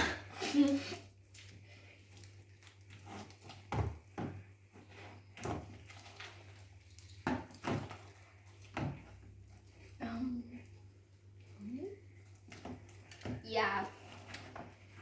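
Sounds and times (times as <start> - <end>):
hands kneading slime: 0.0 - 15.0.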